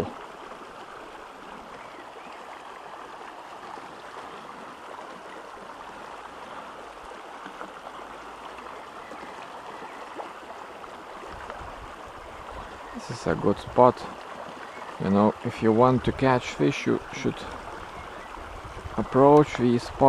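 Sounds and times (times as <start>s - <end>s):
stream flowing over stones: 0.0s - 20.0s.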